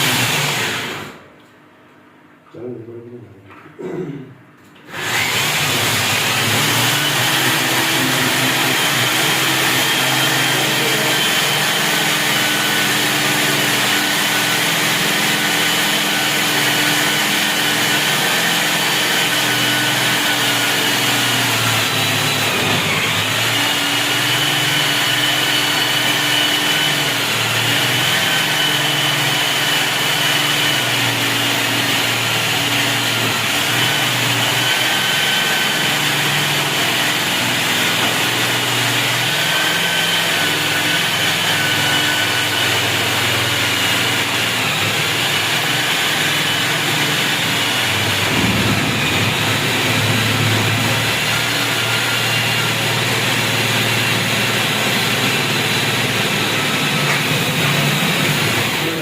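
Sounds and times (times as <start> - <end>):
power tool motor running: 0.0 - 1.2, 4.9 - 59.0.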